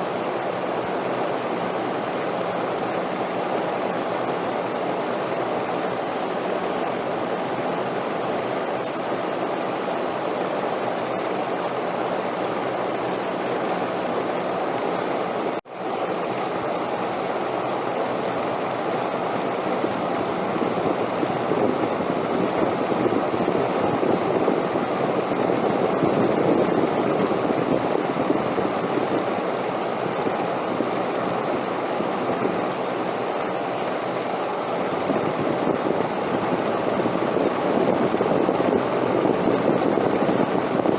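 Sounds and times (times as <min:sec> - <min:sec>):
steady wind: 0:00.0 - 0:40.9.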